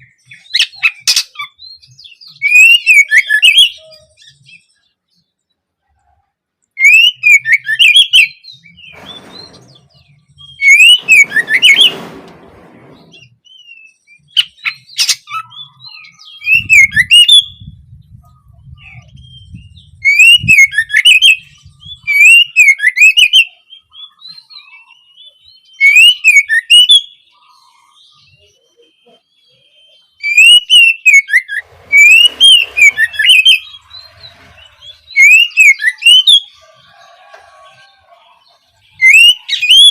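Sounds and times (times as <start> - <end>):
bird singing whistled notes: 0.0 - 4.8, 6.8 - 12.0, 12.9 - 36.6, 38.8 - 39.9.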